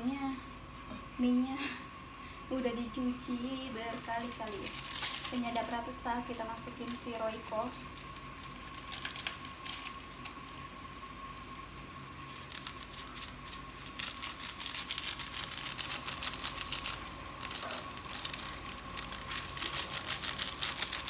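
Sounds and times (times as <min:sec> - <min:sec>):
noodles crackling in hot pan: 0:03.4 - 0:21.0.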